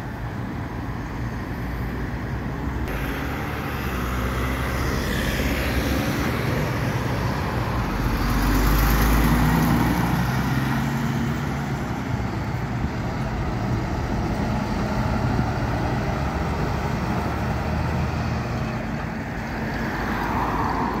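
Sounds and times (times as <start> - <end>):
diesel trucks passing: 0.0 - 21.0.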